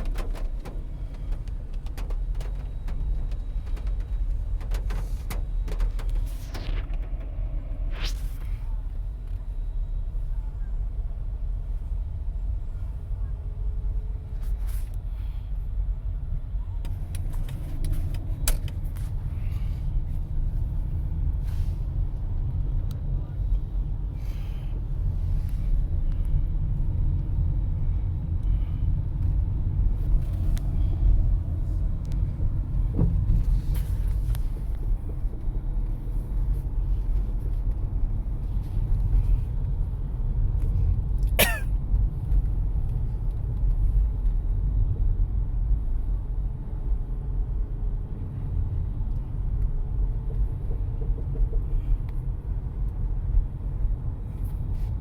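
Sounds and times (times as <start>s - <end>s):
car cabin low rumble: 0.0s - 55.0s.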